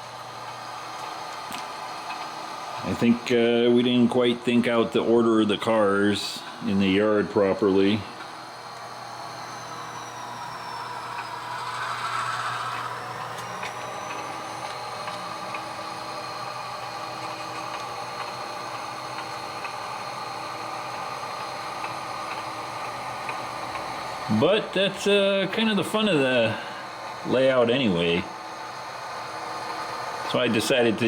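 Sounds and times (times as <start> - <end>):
model locomotive diesel engine sound: 0.0 - 31.0.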